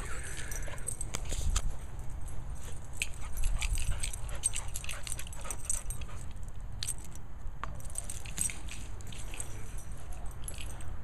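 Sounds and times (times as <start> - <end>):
metallic jingling: 0.0 - 11.0.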